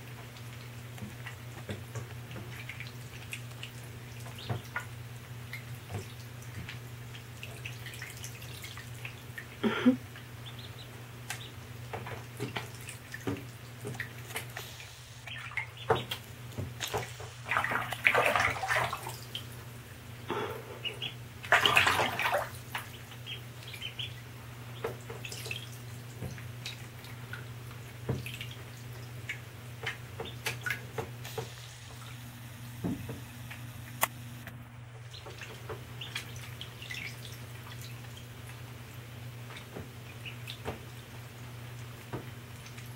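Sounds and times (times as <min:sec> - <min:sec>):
ducklings splashing in water: 0:00.0 - 0:32.1, 0:35.1 - 0:42.9.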